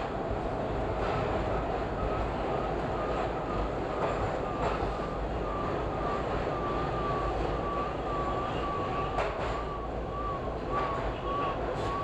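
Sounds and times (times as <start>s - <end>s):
subway train rumbling in tunnel: 0.0s - 12.0s.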